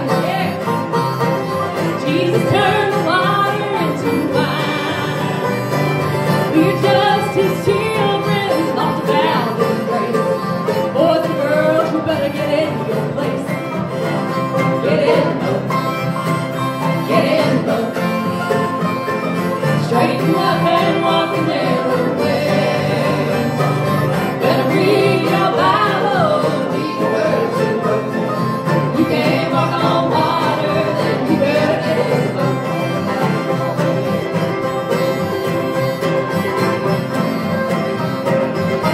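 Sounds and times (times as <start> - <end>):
voices singing: 0.0 - 36.0
acoustic string band playing: 0.0 - 38.9.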